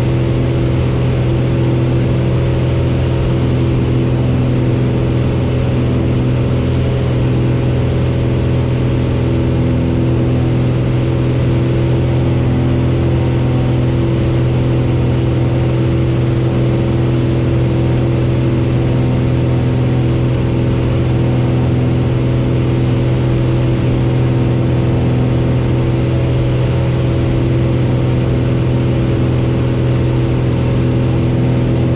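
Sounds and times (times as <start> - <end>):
light aircraft engine drone: 0.0 - 31.9.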